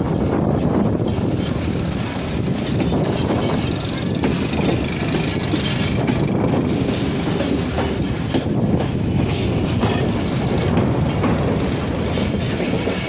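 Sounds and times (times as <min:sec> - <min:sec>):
train wheels rumbling on track: 0:00.0 - 0:13.0
wheels clacking over rail joints: 0:00.8 - 0:13.0.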